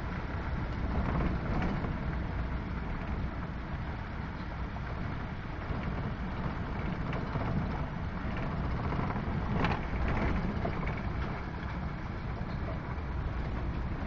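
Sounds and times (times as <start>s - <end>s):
gravel crackling under wheels: 0.0s - 14.0s
tyre and road rumble: 0.0s - 14.0s.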